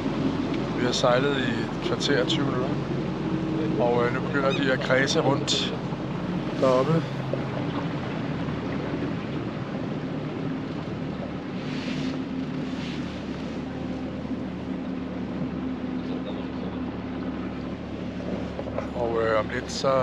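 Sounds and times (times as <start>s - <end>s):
boat engine humming: 0.0s - 20.0s
water noise: 0.0s - 20.0s
wind: 0.0s - 20.0s.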